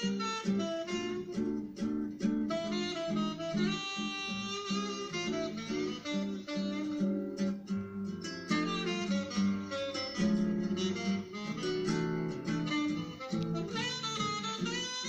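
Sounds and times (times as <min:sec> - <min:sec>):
plucked acoustic guitar: 0:00.0 - 0:15.0
saxophone jazz melody: 0:00.0 - 0:15.0.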